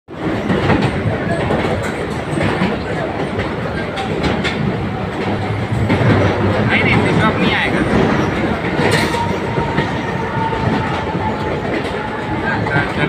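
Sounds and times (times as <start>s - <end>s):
electric train rumbling: 0.1s - 13.0s
train wheels clacking: 0.1s - 13.0s.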